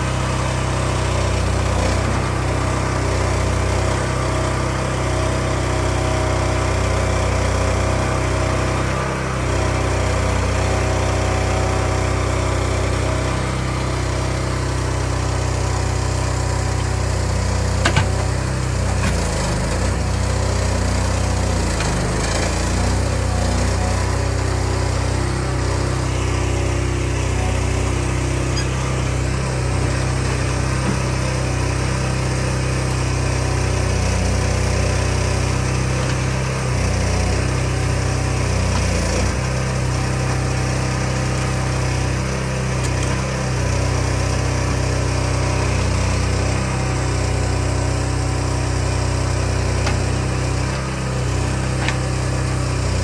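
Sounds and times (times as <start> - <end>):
log loader engine running: 0.0 - 53.0.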